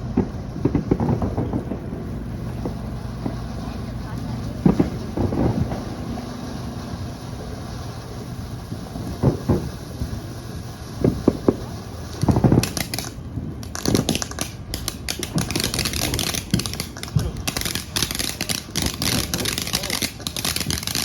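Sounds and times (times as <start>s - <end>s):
firework booms: 0.0s - 21.0s
firework crackling pops: 0.0s - 21.0s.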